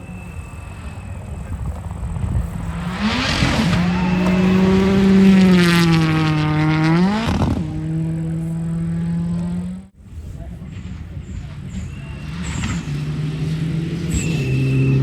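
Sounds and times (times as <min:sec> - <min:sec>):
rally car engine at full throttle: 0:00.0 - 0:15.0.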